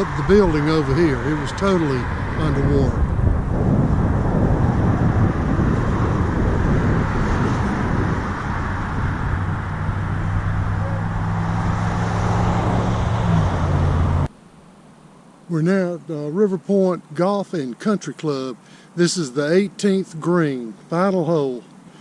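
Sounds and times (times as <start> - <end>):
car engine and road noise: 0.0 - 15.5, 18.8 - 22.0.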